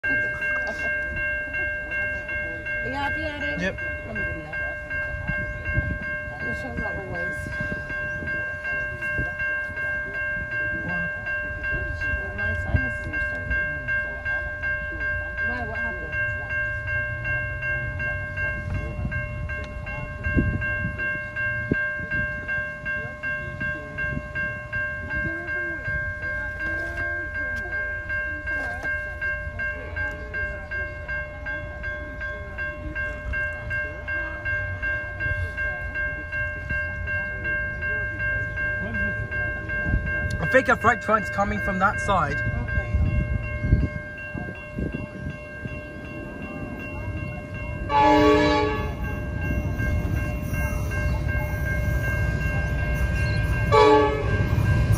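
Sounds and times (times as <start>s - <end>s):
level crossing alarm ringing: 0.0s - 54.9s.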